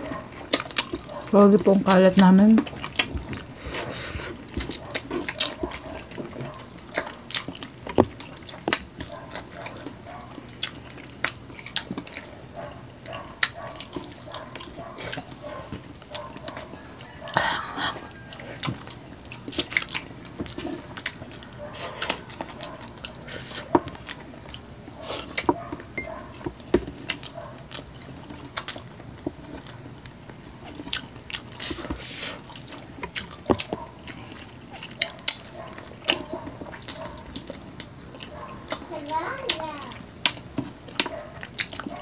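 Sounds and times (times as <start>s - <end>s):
wet chewing: 0.0s - 42.0s.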